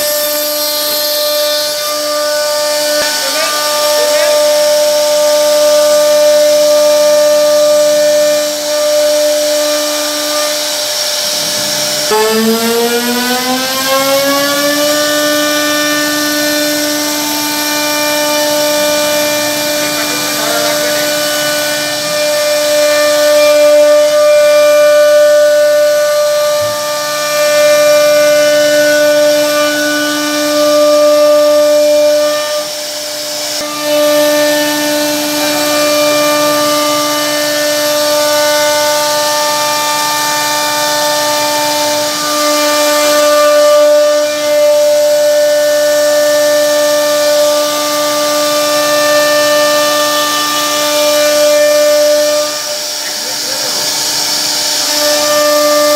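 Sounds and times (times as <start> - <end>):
router spindle whining: 0.0 - 55.9.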